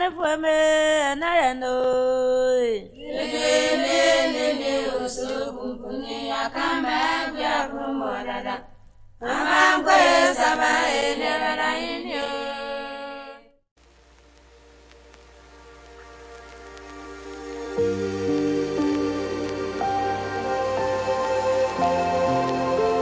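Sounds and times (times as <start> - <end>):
slow chant-like singing: 0.0 - 13.6, 17.5 - 23.0.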